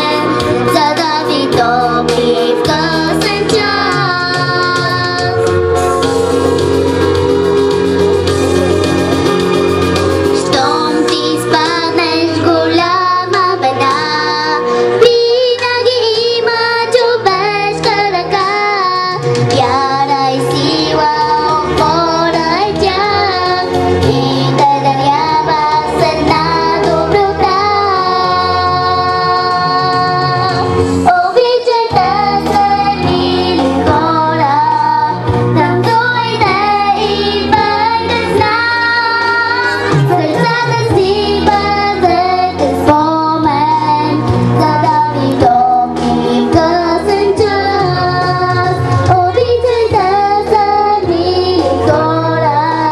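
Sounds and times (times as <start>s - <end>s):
girl singing into a microphone: 0.0s - 5.5s, 10.4s - 52.9s
instrumental accompaniment: 0.0s - 52.9s.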